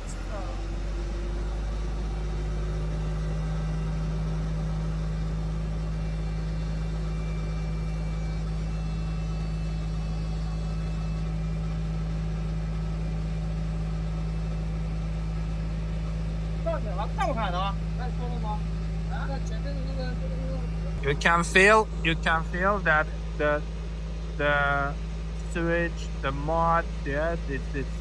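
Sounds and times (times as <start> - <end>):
vacuum pump and engine drone: 0.0 - 28.0.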